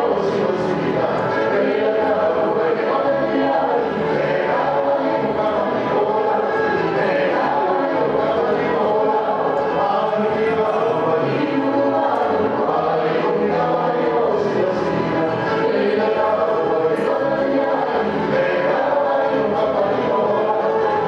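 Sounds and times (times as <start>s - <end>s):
group of voices singing with music: 0.0s - 21.0s.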